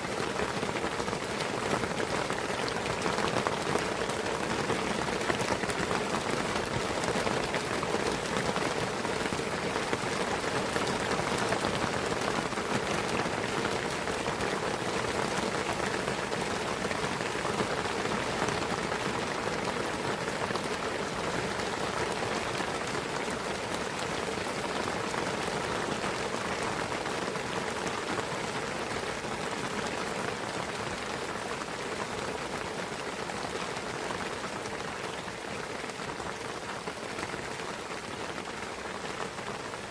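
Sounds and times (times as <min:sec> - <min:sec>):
rain pattering on foliage: 0:00.0 - 0:39.9.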